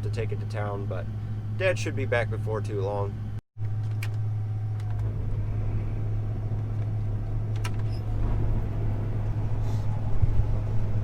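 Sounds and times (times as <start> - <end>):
engine deep drone: 0.0 - 11.0.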